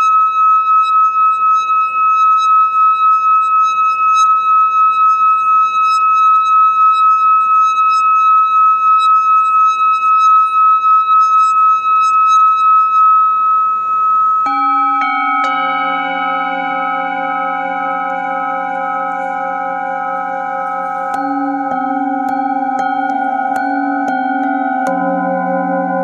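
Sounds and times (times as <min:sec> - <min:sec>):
singing bowl ringing tone: 0:00.0 - 0:26.0.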